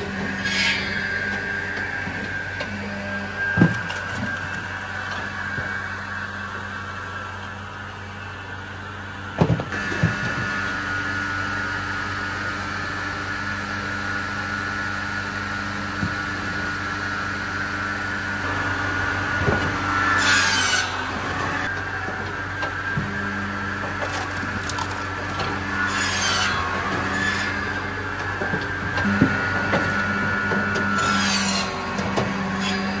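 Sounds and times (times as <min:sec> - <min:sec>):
loud cutting noise: 0:00.0 - 0:08.6, 0:09.3 - 0:33.0
firewood processor running: 0:00.0 - 0:33.0.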